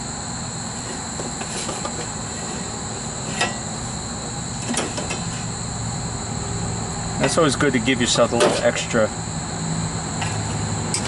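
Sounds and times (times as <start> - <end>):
high steady whine: 0.0 - 11.0
steady low hum: 0.0 - 11.0.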